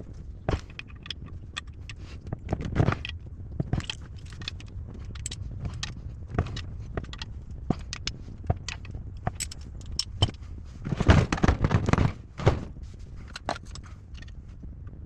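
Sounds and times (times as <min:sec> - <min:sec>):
parts and tools clinking: 0:00.5 - 0:14.4
rattling: 0:00.5 - 0:14.4.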